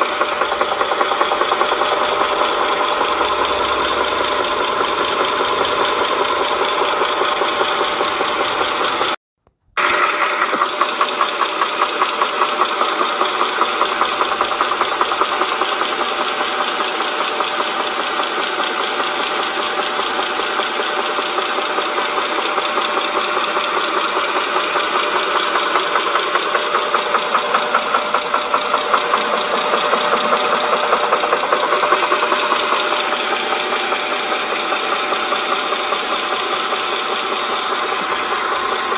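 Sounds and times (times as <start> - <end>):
car engine running: 0.0 - 9.2, 9.8 - 38.9
timing chain knocking rattle: 0.0 - 9.2, 9.8 - 38.9.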